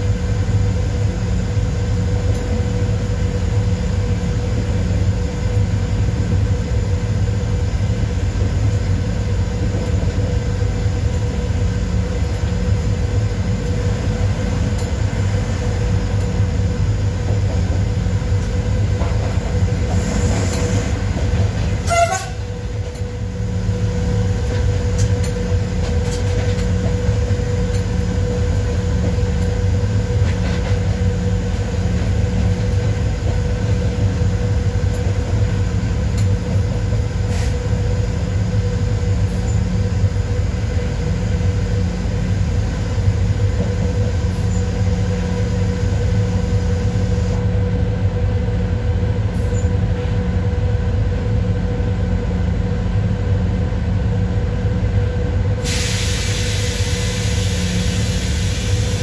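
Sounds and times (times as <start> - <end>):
locomotive low rumble and whine: 0.0 - 59.0.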